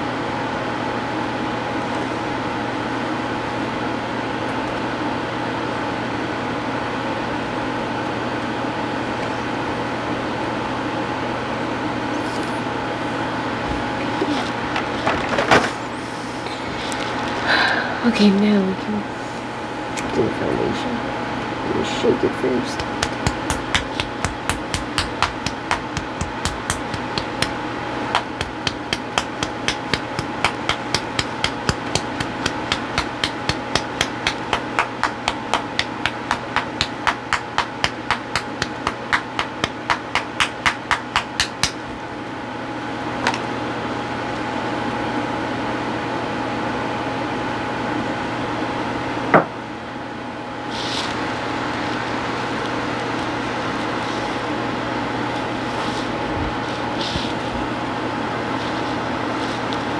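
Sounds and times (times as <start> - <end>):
background hum: 0.0 - 59.9.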